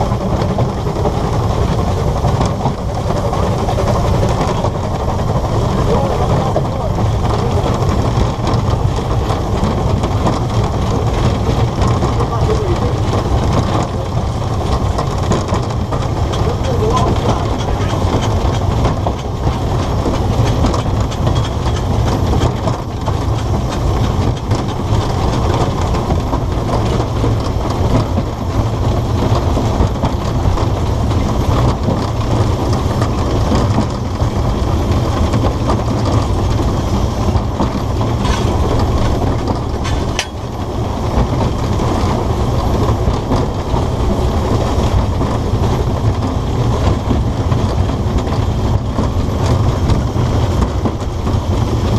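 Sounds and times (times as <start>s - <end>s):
steam locomotive rumbling and rattling: 0.0s - 51.9s.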